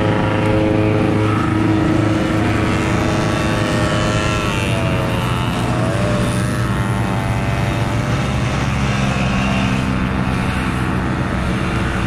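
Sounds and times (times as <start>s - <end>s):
two-stroke snowmobile engines passing: 0.0s - 12.0s.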